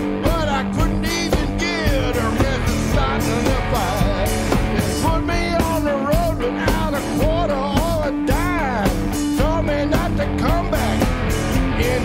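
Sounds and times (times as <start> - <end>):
lead guitar bending notes: 0.0 - 12.0
rock band playing: 0.0 - 12.0.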